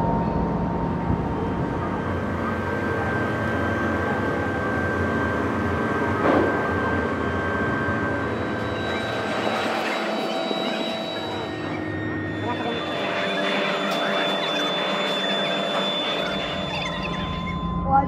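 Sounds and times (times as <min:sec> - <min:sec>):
faint steady tones: 0:00.0 - 0:18.0
heavy industrial machinery rumbling: 0:00.0 - 0:18.0.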